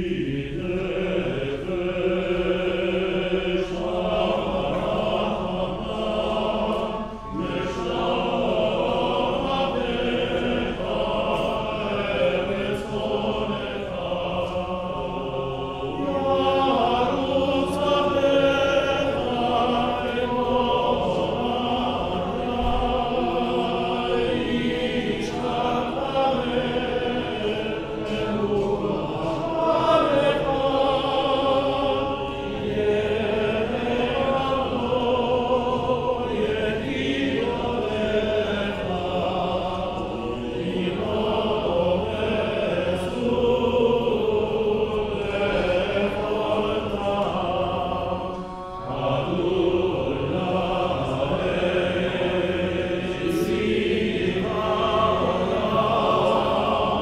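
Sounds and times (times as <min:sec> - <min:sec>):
cantor and male choir chanting: 0:00.0 - 0:57.0.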